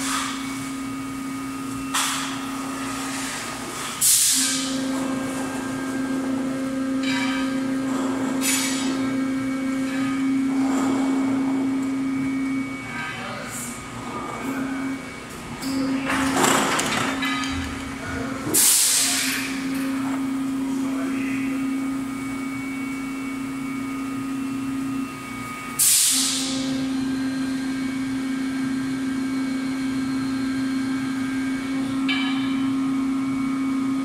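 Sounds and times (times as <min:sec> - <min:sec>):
machine humming: 0:00.0 - 0:34.0.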